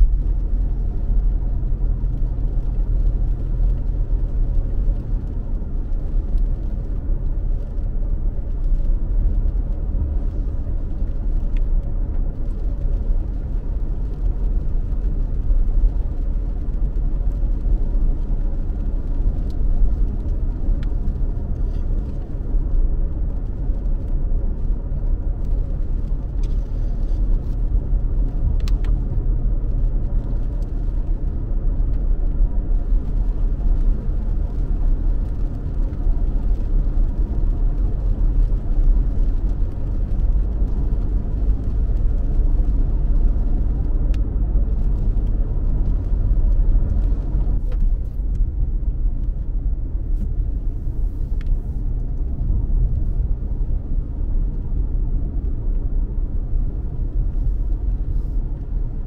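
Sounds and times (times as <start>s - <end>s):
car driving on wet road: 0.0s - 59.0s.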